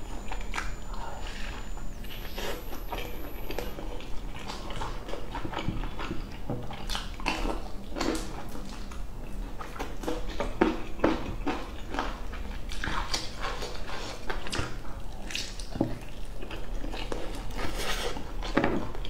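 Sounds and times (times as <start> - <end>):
wet chewing mouth sounds: 0.2 - 19.0.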